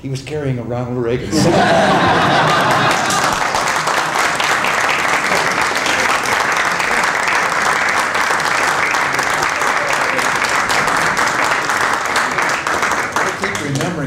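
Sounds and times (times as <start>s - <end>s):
small group applauding: 1.4s - 14.0s.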